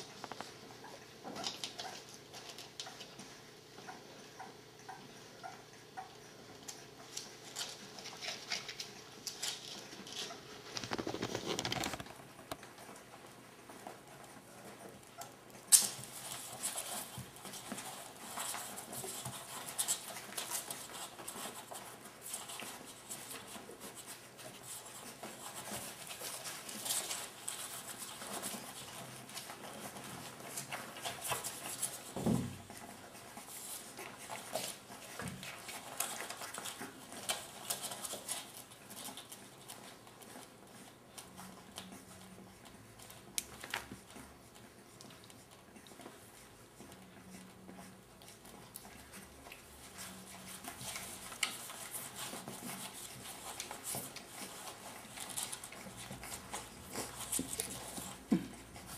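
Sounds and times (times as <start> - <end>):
puppies suckling wet smacking: 0.0 - 58.9.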